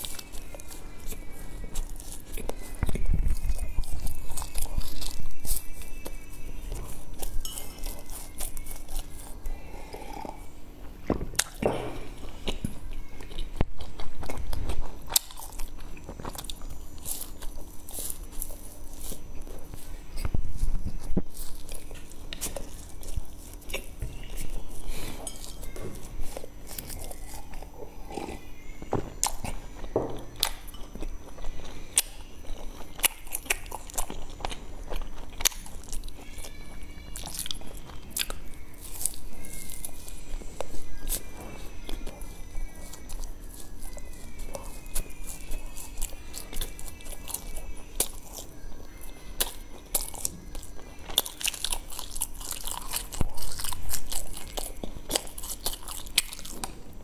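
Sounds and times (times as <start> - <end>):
crunching and chewing grain bar: 0.0 - 57.0.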